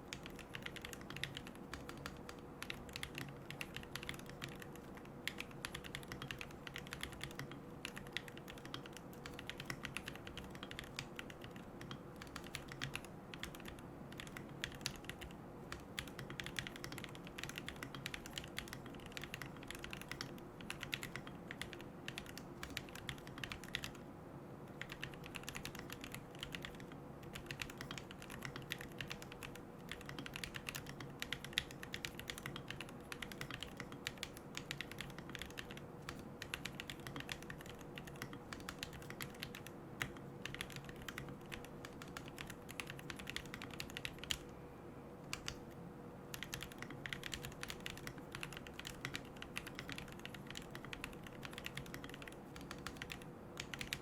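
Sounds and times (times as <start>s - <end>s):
mechanical keyboard typing: 0.0s - 24.0s, 24.7s - 44.5s, 45.3s - 54.0s.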